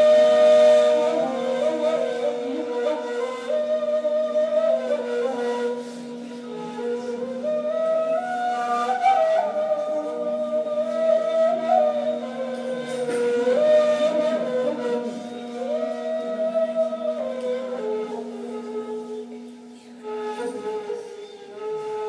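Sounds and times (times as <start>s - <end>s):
end-blown flutes playing slow melody: 0.0s - 22.0s.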